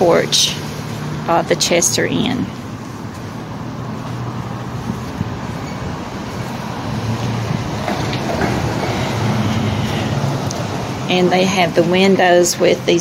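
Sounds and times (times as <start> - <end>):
engine hum: 0.0 - 13.0
road noise: 0.0 - 13.0.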